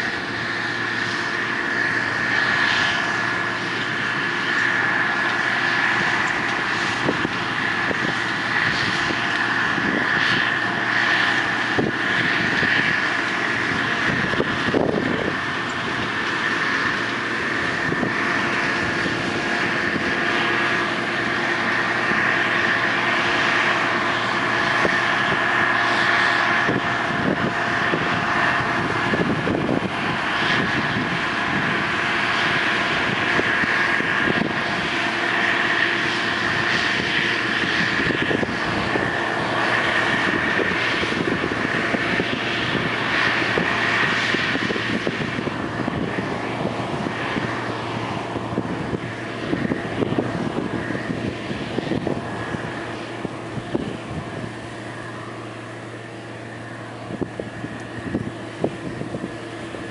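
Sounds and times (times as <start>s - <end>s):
combine harvester running: 0.0s - 59.9s
high whine: 0.0s - 59.9s.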